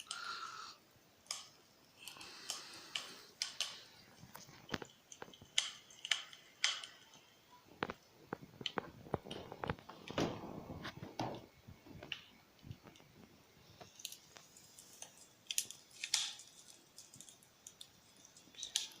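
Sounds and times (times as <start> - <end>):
fireplace crackling through phone speaker: 0.0 - 19.0.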